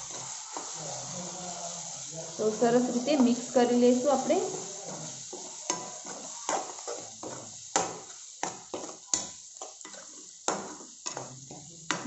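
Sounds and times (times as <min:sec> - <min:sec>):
faint frying sizzle: 0:00.0 - 0:12.0.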